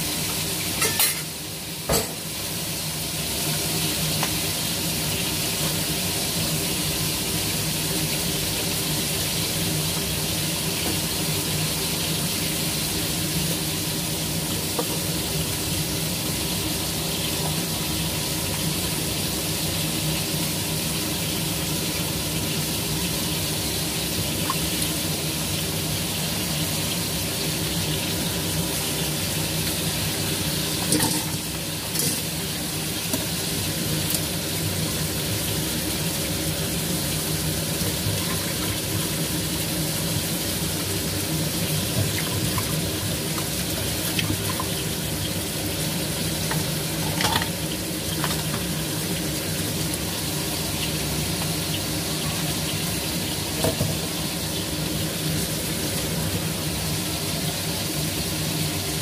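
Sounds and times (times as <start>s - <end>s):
fish sizzling in oil: 0.0s - 59.0s
range hood fan humming: 0.0s - 59.0s.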